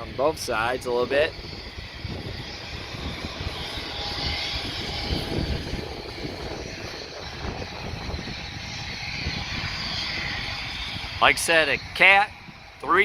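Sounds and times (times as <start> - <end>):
machinery engine drone: 0.0 - 13.0
wind buffeting microphone: 0.0 - 13.0.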